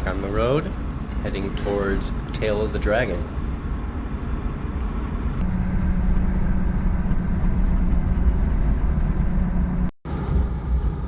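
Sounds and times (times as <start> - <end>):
steady hum: 0.0 - 11.0
truck engine and road rumble: 0.0 - 11.0.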